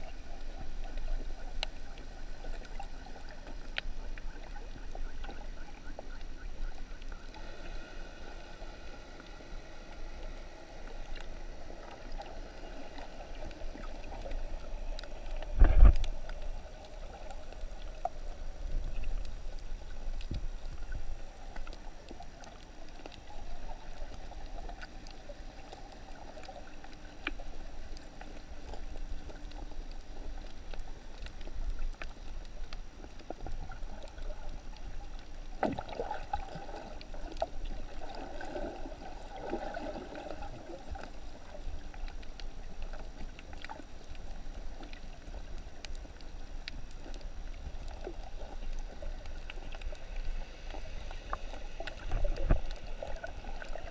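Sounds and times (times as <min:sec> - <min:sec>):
underwater rush of water: 0:00.0 - 0:53.9
faint clicks: 0:00.1 - 0:53.9.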